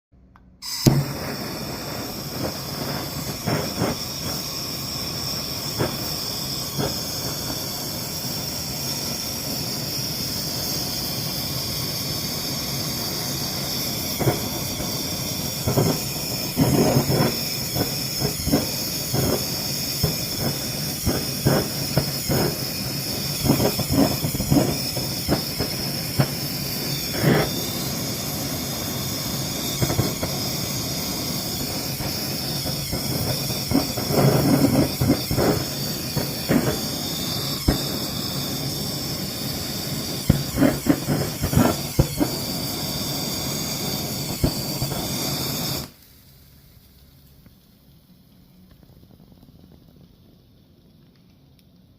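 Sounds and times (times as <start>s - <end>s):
blowtorch hissing: 0.6s - 46.2s
food crackling and popping: 0.7s - 4.8s, 13.8s - 51.9s.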